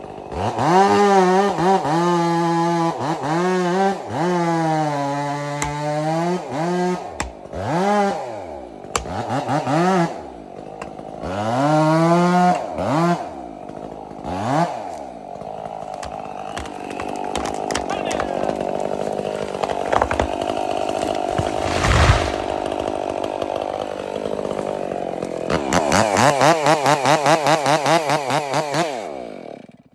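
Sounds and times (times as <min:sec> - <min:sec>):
chainsaw revving: 0:00.0 - 0:29.9.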